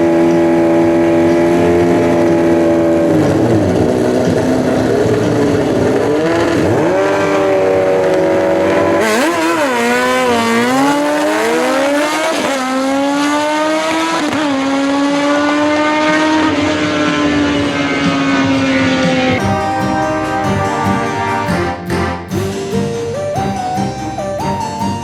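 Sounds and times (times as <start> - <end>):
motorcycle engines revving: 0.0 - 23.8.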